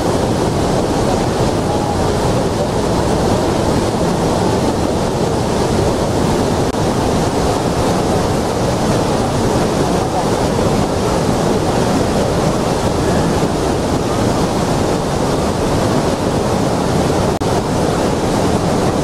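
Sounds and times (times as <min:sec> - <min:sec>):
roar of heavy falling water: 0:00.0 - 0:19.0
wind buffeting microphone: 0:00.0 - 0:19.0.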